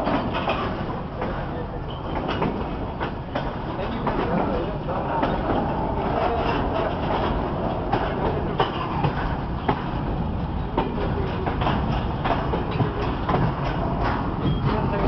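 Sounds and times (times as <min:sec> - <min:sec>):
train rumble: 0:00.0 - 0:15.0
sharp knocks of train wheels: 0:02.0 - 0:15.0.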